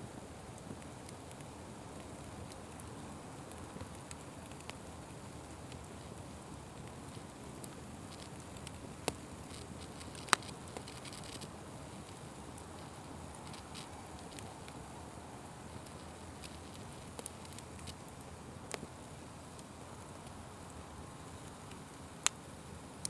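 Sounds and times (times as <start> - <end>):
wood fire crackling: 0.0 - 23.0
fire popping: 0.1 - 23.0.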